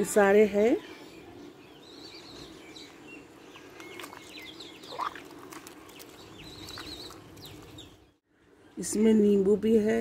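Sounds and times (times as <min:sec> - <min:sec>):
small birds chirping: 0:00.2 - 0:09.7.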